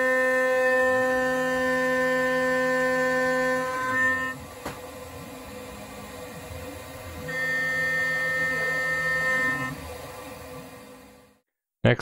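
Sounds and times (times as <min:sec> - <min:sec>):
milling machine whine: 0:00.0 - 0:11.4.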